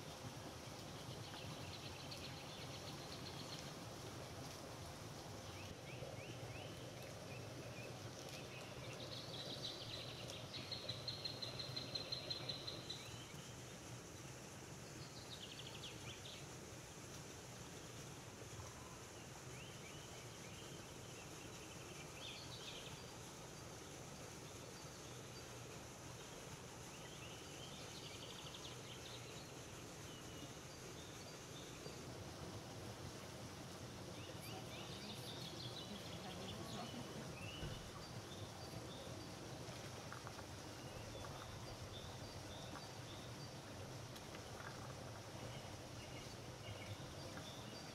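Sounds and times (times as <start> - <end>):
low background hiss and hum: 0.0 - 47.9.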